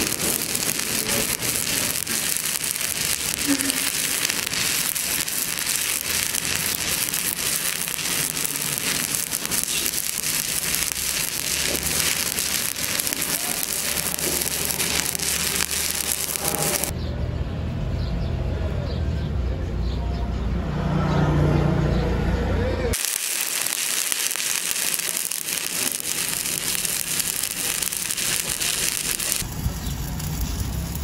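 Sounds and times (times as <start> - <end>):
welding arc crackling sizzle: 0.0 - 17.0, 22.9 - 31.0.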